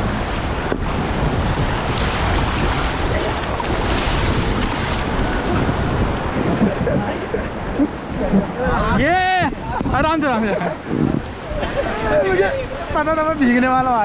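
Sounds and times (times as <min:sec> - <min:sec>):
rushing river water: 0:00.0 - 0:14.0
wind buffeting microphone: 0:00.0 - 0:14.0.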